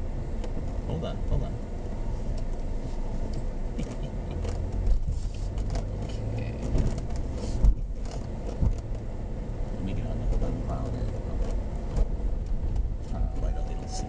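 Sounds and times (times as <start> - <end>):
car engine and road rumble: 0.0 - 14.0
car thumping over bumps: 0.0 - 14.0.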